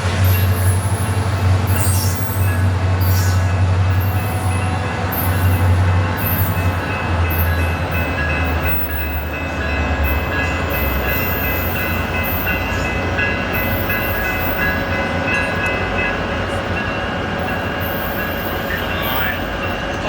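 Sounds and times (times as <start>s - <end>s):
high whine from train equipment: 0.0s - 20.0s.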